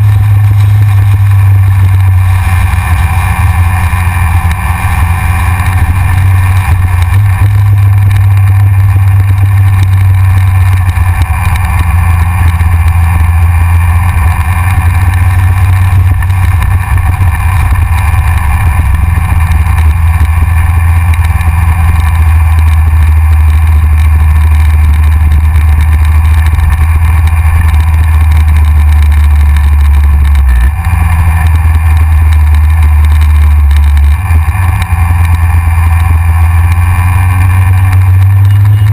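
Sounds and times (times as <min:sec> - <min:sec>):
motorcycle engine running: 0:00.0 - 0:38.9
wind rushing over camera: 0:00.0 - 0:38.9.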